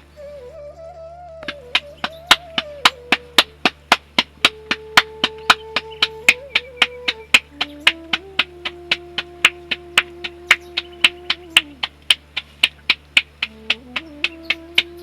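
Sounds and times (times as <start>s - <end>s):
held-note melody: 0.0s - 15.0s
clicking beat: 1.4s - 15.0s.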